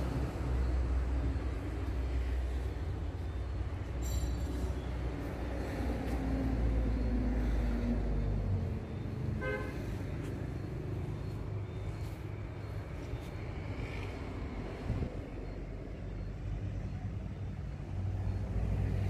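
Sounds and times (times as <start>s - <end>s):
low vehicle rumble: 0.0s - 19.0s.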